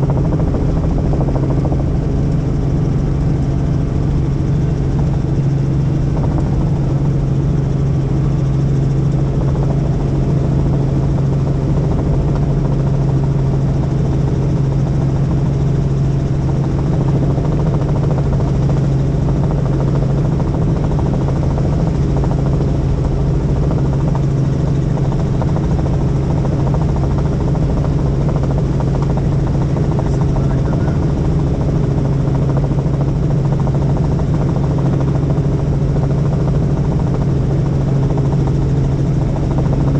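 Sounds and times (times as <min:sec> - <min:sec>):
helicopter droning in flight: 0:00.0 - 0:39.9.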